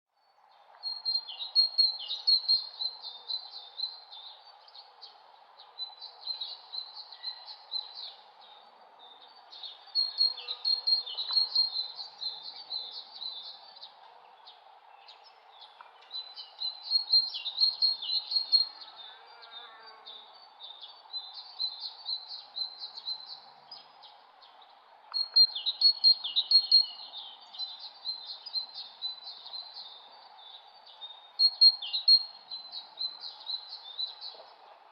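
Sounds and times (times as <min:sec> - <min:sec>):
songbird chirping: 0:00.1 - 0:34.9
steady background hiss: 0:00.2 - 0:34.9.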